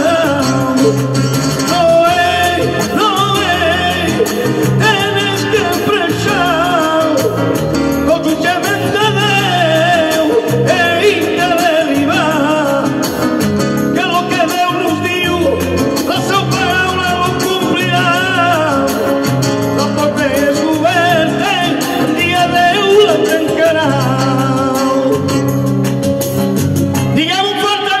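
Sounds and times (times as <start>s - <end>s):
man singing into microphone: 0.0s - 28.0s
rhythmic accompaniment: 0.0s - 28.0s.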